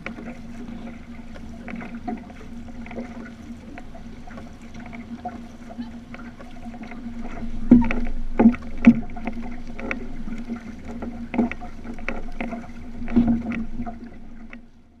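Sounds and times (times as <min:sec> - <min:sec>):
paddle splashes and knocks: 0:00.0 - 0:15.0
water rushing along a canoe hull: 0:00.0 - 0:15.0.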